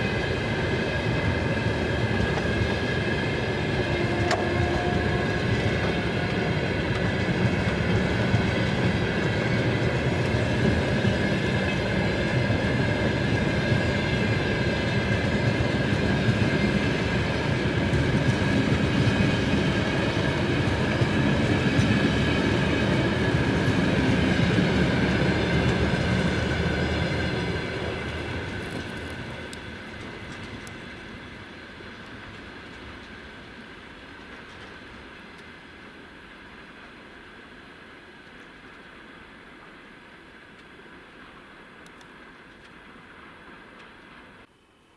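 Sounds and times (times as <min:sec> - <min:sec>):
train wheels rumbling on rail: 0:00.0 - 0:44.5.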